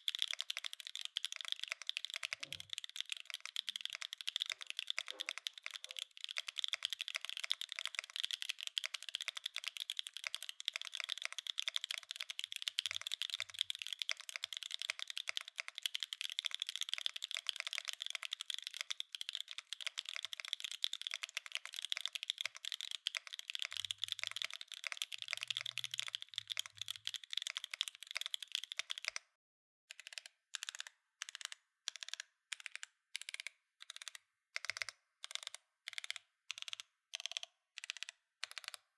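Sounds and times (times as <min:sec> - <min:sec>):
mechanical keyboard typing: 0:00.0 - 0:29.2, 0:29.9 - 0:38.9.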